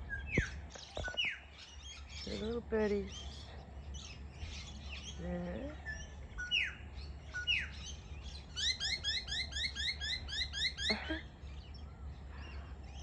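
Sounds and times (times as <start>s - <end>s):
birds whistling and chirping: 0.0s - 13.0s.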